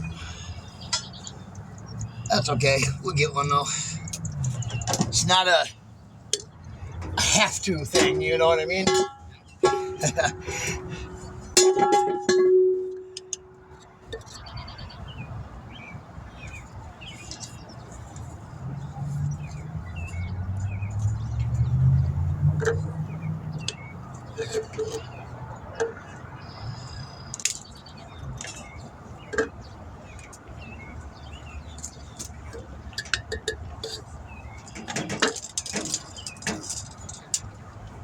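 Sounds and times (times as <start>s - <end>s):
birds chirping: 0.0s - 38.0s
low vehicle rumble: 0.0s - 38.0s.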